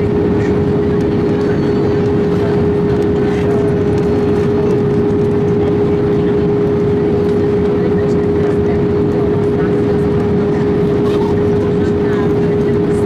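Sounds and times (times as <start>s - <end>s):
aircraft cabin engine roar: 0.0s - 13.0s.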